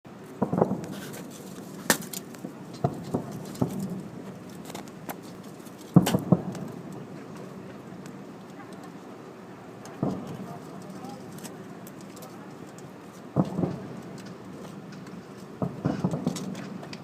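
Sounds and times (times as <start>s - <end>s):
fireworks bangs and pops: 0.2s - 9.0s, 9.8s - 17.0s.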